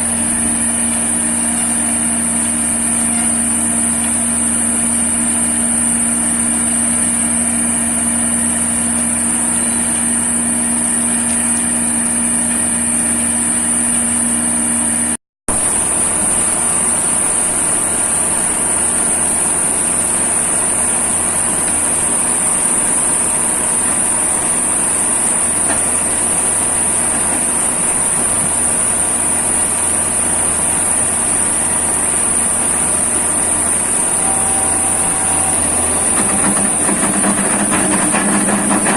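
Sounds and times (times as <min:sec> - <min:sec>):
diesel engine running: 0:00.0 - 0:38.9
high whine: 0:00.0 - 0:38.9.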